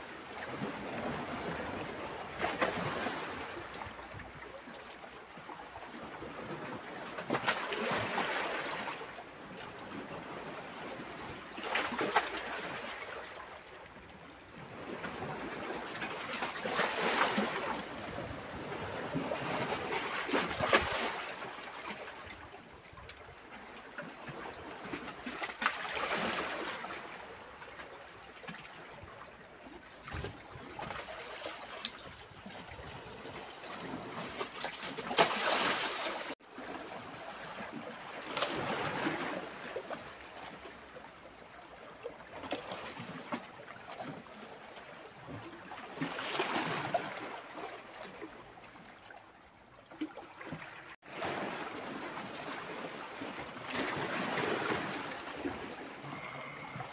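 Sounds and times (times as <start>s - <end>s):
seawater sloshing between rocks: 0.1s - 56.9s.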